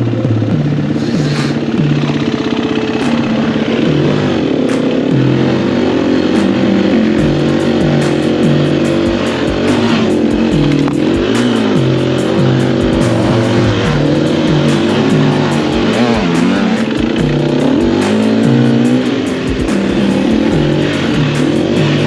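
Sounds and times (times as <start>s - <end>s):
dirt bike engine revving: 0.0s - 22.0s
music with bass and steady beat: 0.0s - 22.0s.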